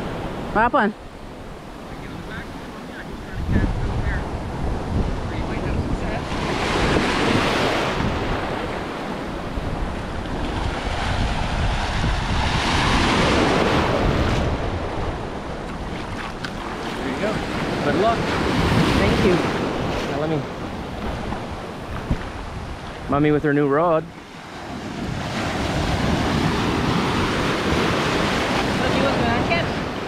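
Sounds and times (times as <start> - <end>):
wind buffeting the microphone: 0.0 - 30.0
waves washing over rocks: 5.5 - 30.0.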